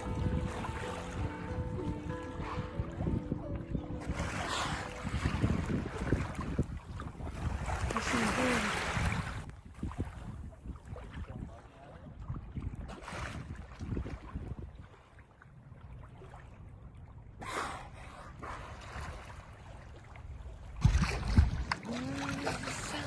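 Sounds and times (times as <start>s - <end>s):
water moving around boat: 0.0s - 23.0s
wind buffeting microphone: 0.0s - 23.0s.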